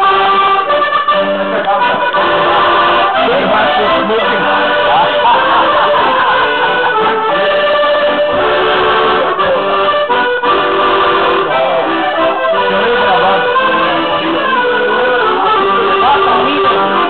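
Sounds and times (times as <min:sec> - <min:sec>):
accordion playing folk tune: 0:00.0 - 0:17.0.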